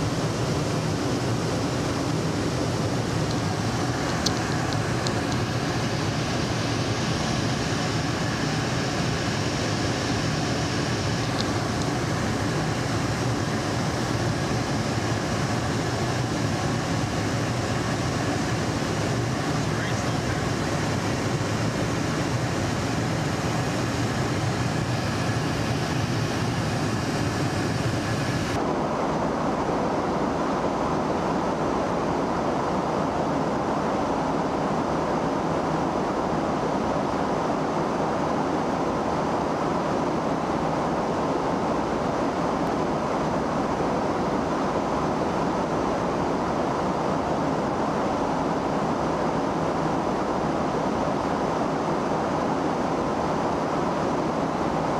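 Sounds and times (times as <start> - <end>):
aircraft engines roaring: 0.0 - 54.9.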